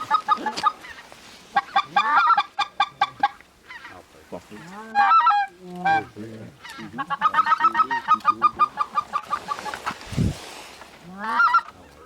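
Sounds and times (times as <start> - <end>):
goose clucking and honking: 0.0 - 10.0, 11.0 - 12.0.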